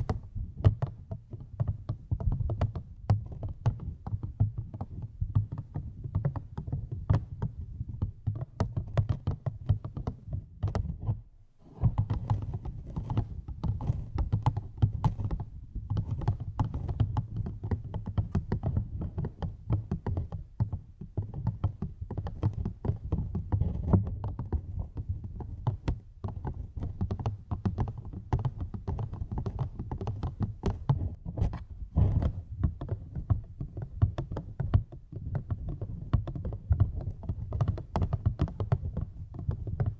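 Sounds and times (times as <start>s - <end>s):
soft tapping at microphone: 0.0s - 39.9s.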